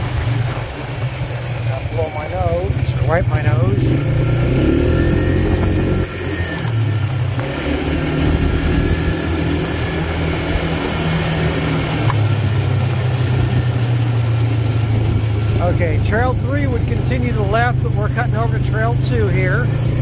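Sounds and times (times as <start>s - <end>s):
quad bike engine running: 0.0s - 20.0s.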